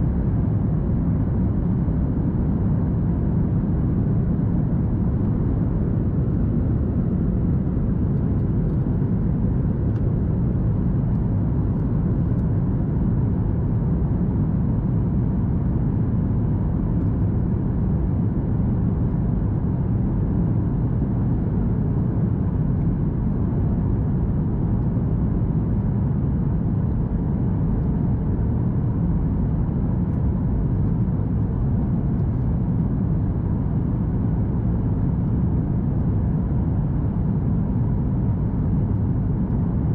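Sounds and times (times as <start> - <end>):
aircraft engine rumble: 0.0 - 39.9.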